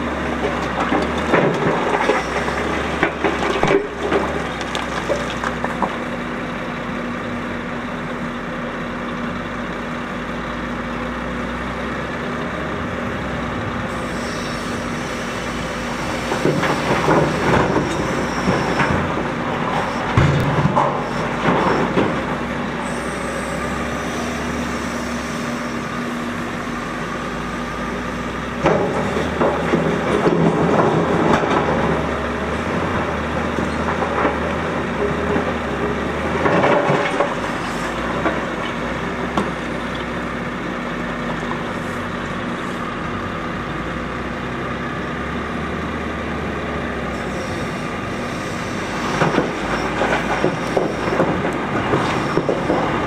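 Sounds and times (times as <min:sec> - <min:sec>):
diesel engines running: 0:00.0 - 0:53.0.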